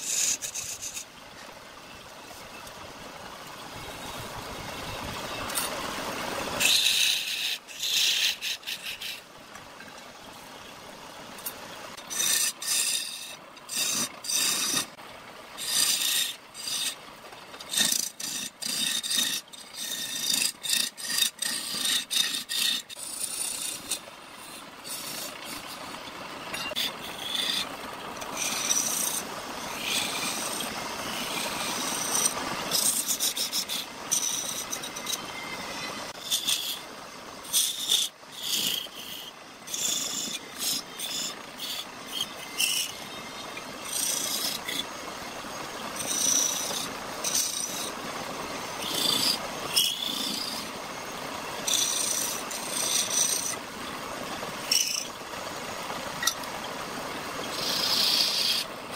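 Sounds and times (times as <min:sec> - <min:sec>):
chisel scraping wood on lathe: 0:00.0 - 0:01.2, 0:05.3 - 0:09.9, 0:11.4 - 0:15.0, 0:15.6 - 0:53.6, 0:54.3 - 0:55.2, 0:57.4 - 0:58.7.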